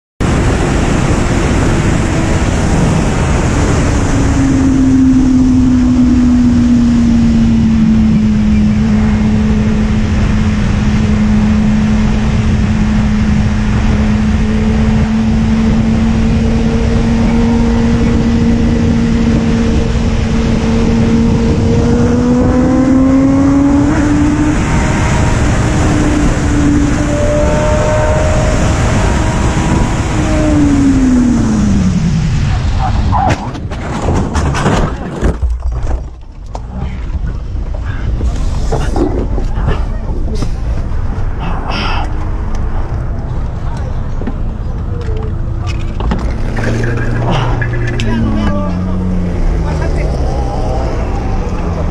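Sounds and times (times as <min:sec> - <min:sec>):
wind noise on microphone: 0:00.2 - 0:51.9.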